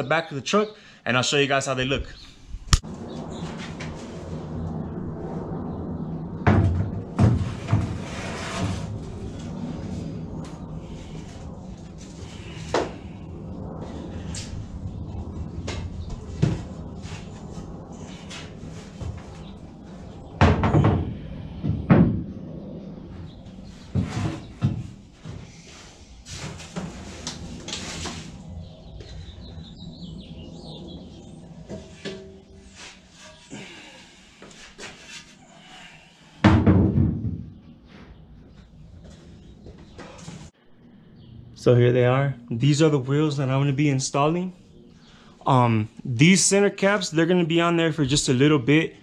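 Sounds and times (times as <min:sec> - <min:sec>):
steady low hum: 0:02.3 - 0:49.0.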